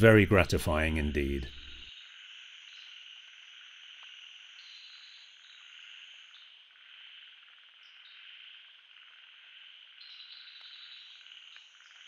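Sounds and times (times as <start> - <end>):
insects and frogs trilling: 1.8 - 12.0.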